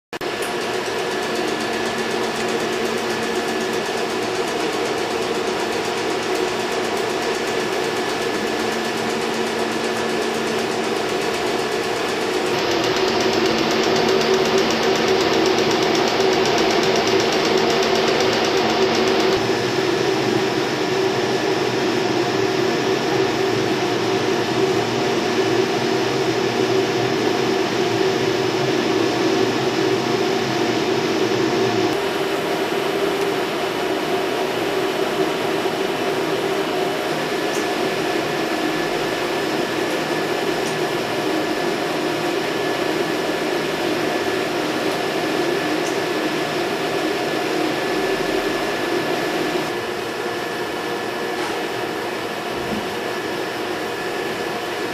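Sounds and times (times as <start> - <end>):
machinery humming and whirring: 0.2 - 54.9.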